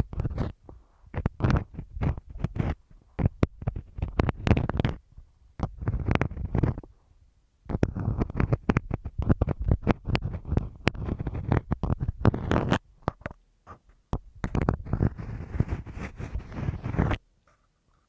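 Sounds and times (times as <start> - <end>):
pins scratching on masking tape: 0.0 - 5.0, 5.6 - 6.9, 7.7 - 13.4, 14.4 - 17.2.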